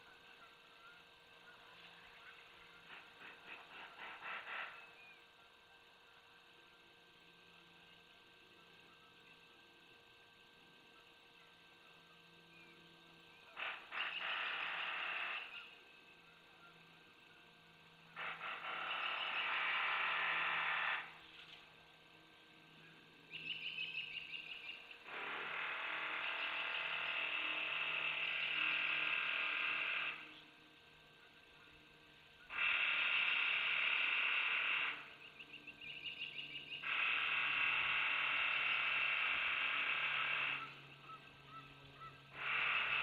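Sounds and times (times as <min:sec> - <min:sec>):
harsh rasping buzz: 0:00.0 - 0:43.0.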